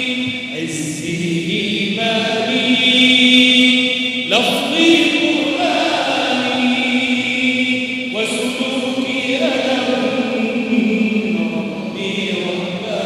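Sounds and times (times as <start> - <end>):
voices chanting long notes: 0.0 - 13.0.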